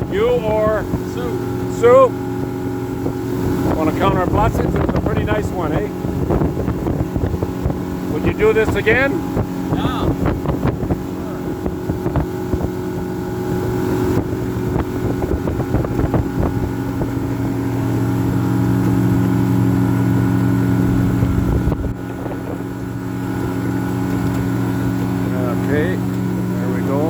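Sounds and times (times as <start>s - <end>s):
boat motor running: 0.0s - 27.0s
wind buffeting microphone: 0.0s - 27.0s.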